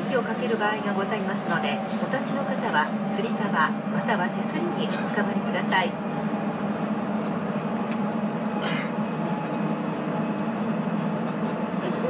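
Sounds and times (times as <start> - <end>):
train tyres and running gear drone: 0.0 - 12.0.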